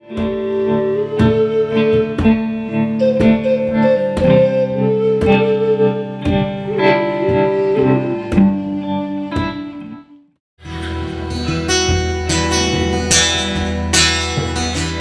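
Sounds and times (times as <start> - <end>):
guitar chords strummed: 0.0 - 15.0
sustained melody line: 0.0 - 15.0.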